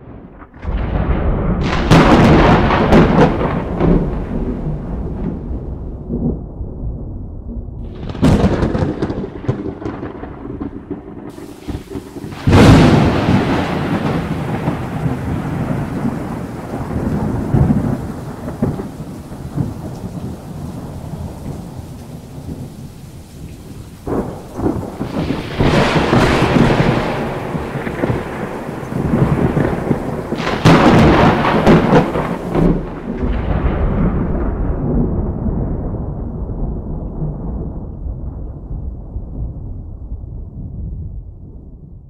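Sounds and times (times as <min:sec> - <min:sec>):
thunder: 0:00.0 - 0:42.0.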